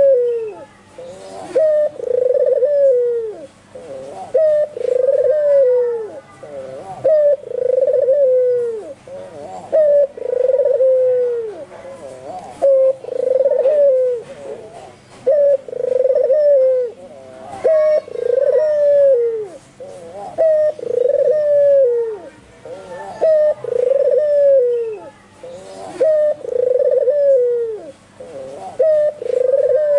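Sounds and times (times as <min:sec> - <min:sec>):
dove cooing: 0:00.0 - 0:29.9.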